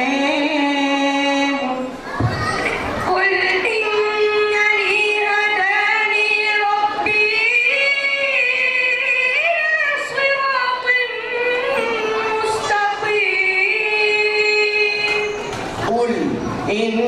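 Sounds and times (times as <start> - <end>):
boy chanting into a microphone: 0.0 - 15.5.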